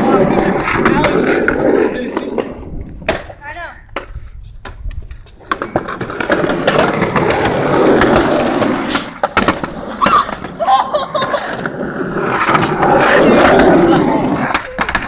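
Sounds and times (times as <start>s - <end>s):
skateboard clacks: 0.0s - 15.0s
skateboard wheels rolling on pavement: 0.0s - 15.0s.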